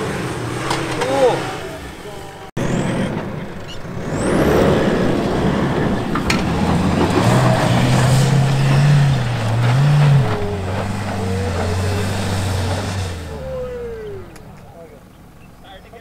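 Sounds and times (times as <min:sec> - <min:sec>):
diesel engine revving hard: 0:00.0 - 0:16.0
tyres spinning in loose dirt: 0:00.0 - 0:16.0.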